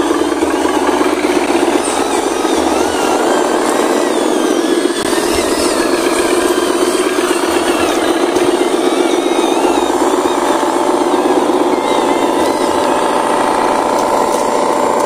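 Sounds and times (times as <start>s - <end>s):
model truck motor drone: 0.0s - 15.0s.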